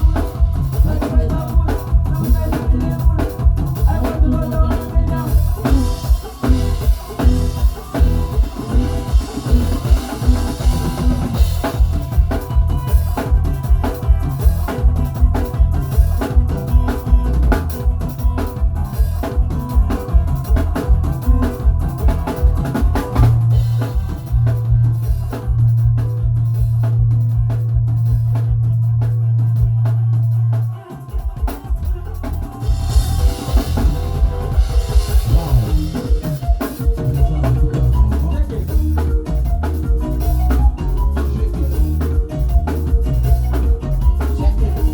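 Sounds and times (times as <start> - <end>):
bass drum pulse: 0.0 - 30.6, 31.2 - 44.9
music: 0.0 - 44.9.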